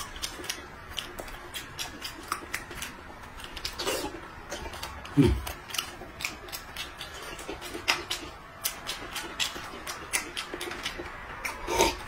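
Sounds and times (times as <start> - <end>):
man chewing and lip-smacking: 0.0 - 12.0.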